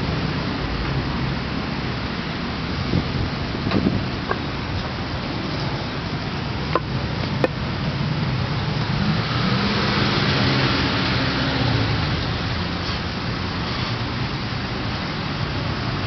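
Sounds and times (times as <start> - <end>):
cars going by: 0.0 - 16.0
vehicle engine hum passing: 0.0 - 16.0.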